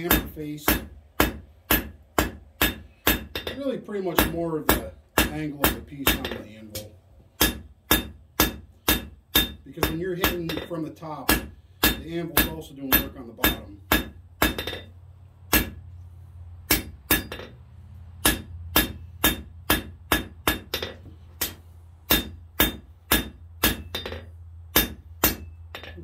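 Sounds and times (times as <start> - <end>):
hammer striking hot steel on anvil: 0.0 - 15.8, 16.7 - 17.6, 18.2 - 26.0.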